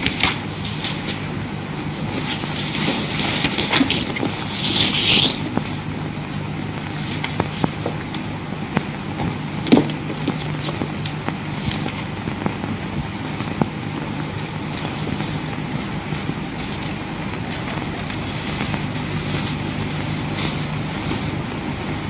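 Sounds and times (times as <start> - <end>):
film soundtrack hiss: 0.0 - 22.0.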